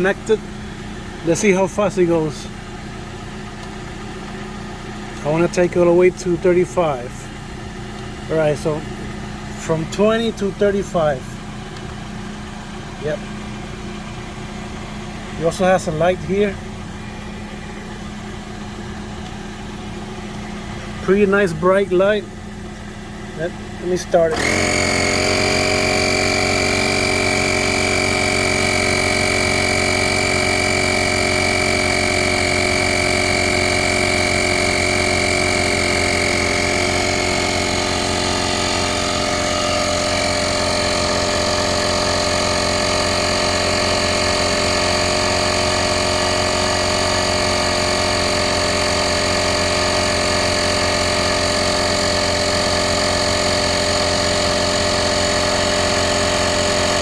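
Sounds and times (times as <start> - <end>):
air compressor pumping tire: 0.0 - 57.0.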